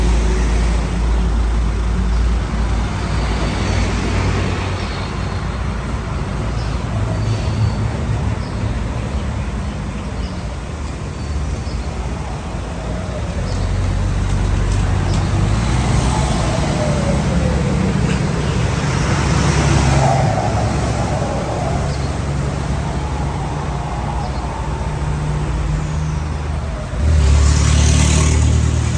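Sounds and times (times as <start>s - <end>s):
road noise: 0.0s - 28.9s
vehicle engine rumbling: 0.0s - 28.9s.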